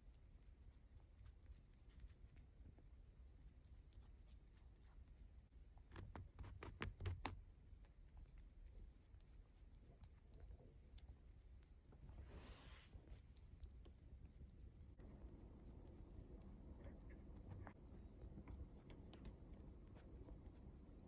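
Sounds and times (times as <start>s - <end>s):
rabbit chewing and licking: 0.0s - 21.0s.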